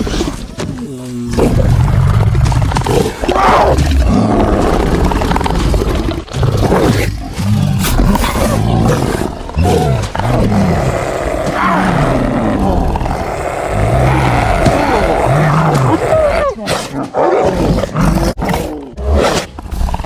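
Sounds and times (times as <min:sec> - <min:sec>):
wolf growling: 0:00.0 - 0:20.0.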